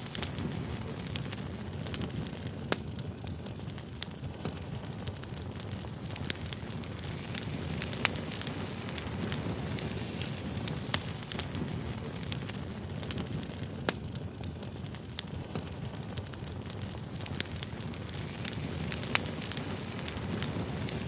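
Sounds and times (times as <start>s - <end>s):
fire hissing: 0.0s - 21.0s
firewood crackling and popping: 0.0s - 21.0s.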